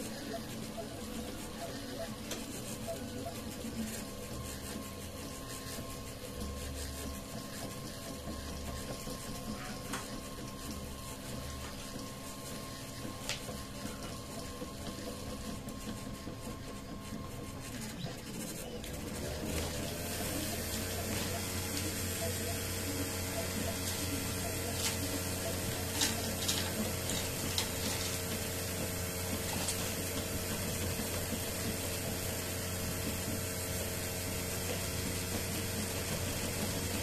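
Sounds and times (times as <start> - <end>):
stepper motors whining: 0.0 - 37.0.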